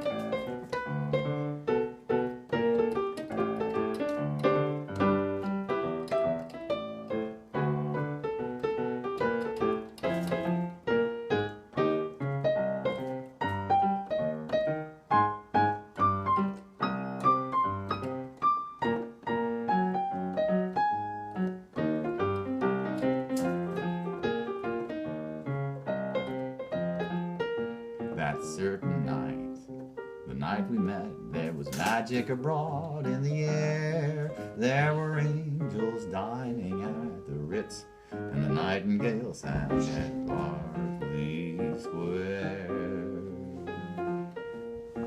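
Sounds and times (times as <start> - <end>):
piano playing: 0.0 - 45.0.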